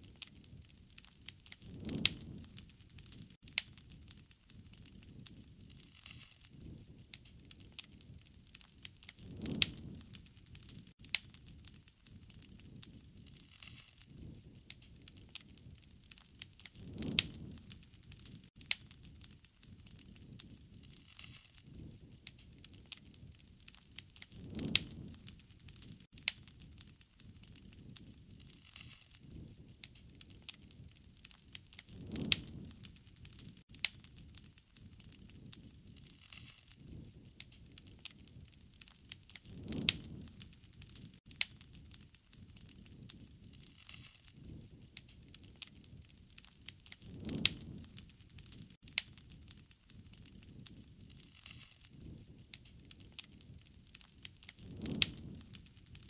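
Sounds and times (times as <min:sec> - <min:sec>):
low rushing of fire: 0:00.0 - 0:56.0
wood fire crackling and popping: 0:00.0 - 0:56.0.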